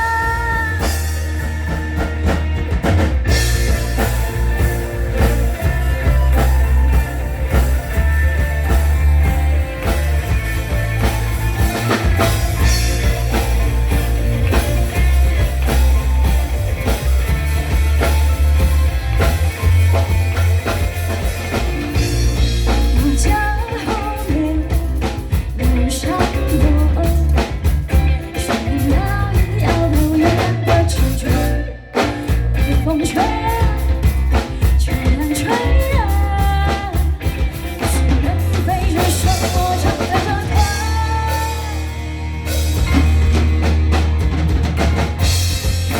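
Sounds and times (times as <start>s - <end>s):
rock music with drum kit: 0.0s - 45.9s.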